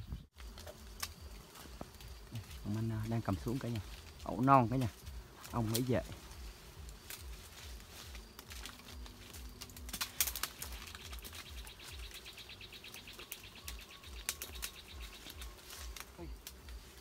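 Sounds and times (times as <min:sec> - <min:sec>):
leaves and branches rustling: 0:00.0 - 0:17.0
pulsing insect trill: 0:00.1 - 0:17.0
branches cracking: 0:00.3 - 0:17.0.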